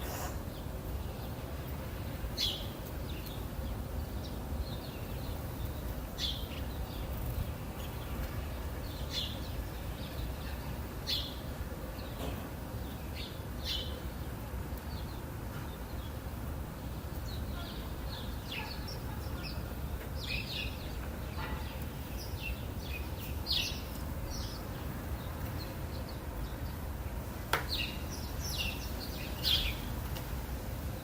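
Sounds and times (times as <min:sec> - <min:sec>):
songbirds chirping softly: 0:00.0 - 0:31.0.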